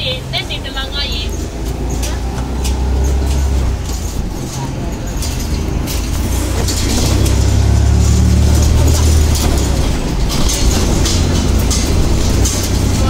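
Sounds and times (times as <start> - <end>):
car engine drone: 0.0 - 13.0.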